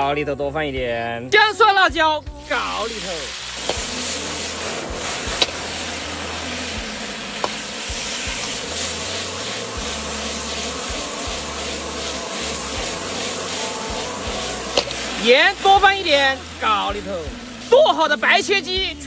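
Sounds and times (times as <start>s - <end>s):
food sizzling in hot oil: 1.3s - 19.0s.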